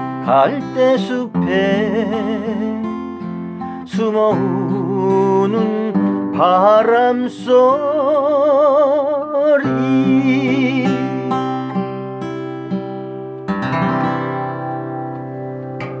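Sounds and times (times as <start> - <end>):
acoustic guitar: 0.0 - 16.0.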